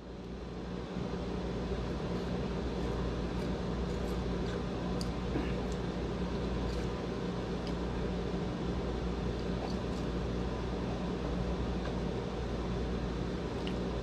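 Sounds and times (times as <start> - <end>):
mechanical fan hum: 0.0 - 14.0.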